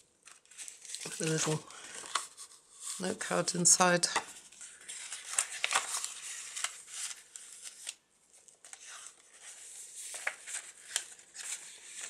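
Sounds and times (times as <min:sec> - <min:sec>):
paper rustling and crinkling: 0:00.2 - 0:12.0.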